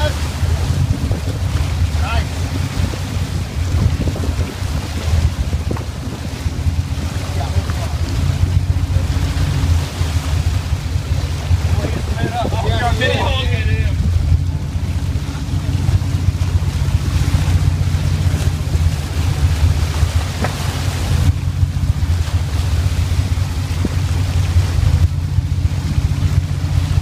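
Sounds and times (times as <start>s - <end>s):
boat engines droning: 0.0s - 27.0s
water churning along hull: 0.0s - 27.0s
wind on microphone: 0.0s - 27.0s.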